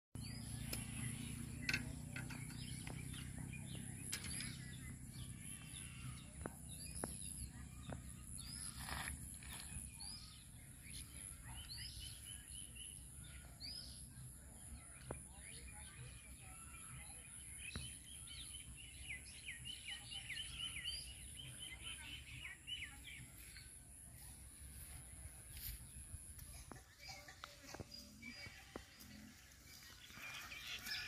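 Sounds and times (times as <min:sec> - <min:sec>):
birds chirping: 0:00.2 - 0:31.0.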